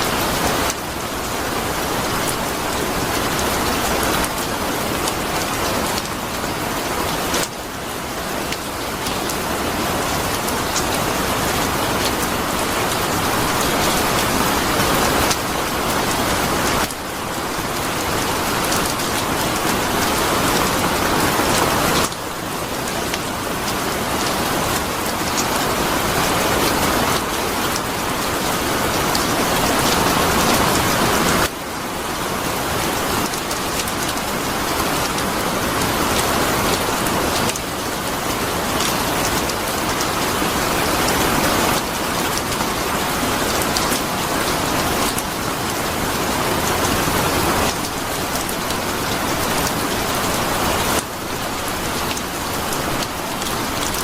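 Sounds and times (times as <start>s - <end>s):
heavy rain on a surface: 0.0s - 54.0s.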